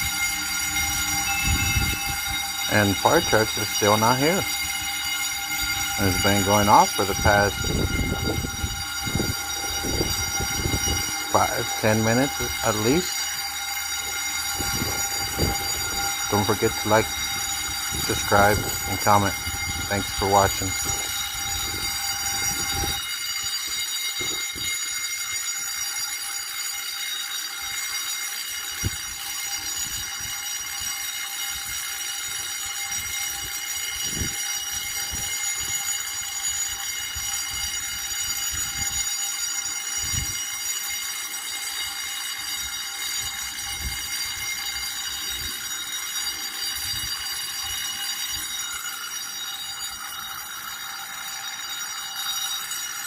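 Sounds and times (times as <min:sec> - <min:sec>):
fire alarm buzzing: 0:00.0 - 0:53.0.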